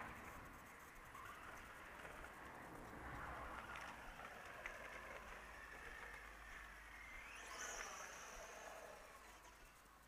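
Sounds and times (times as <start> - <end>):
rc car motor whine: 0.1 - 10.0.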